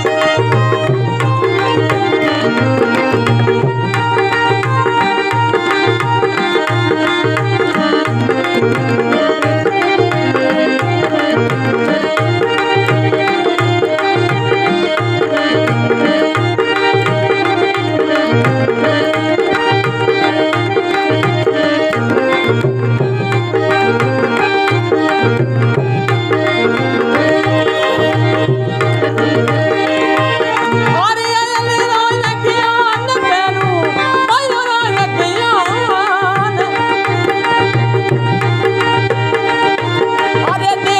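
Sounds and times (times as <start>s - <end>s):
gliding melody: 0.0s - 33.4s
hand drum rhythm: 0.0s - 40.9s
sustained melody line: 0.0s - 40.9s.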